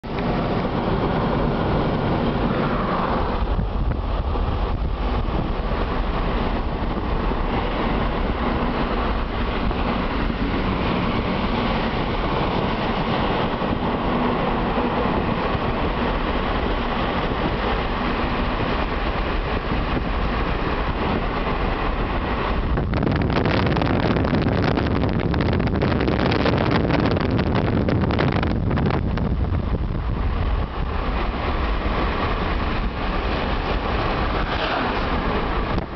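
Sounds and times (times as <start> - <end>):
low engine hum: 0.0 - 35.9
tyres rumbling on road: 0.0 - 35.9.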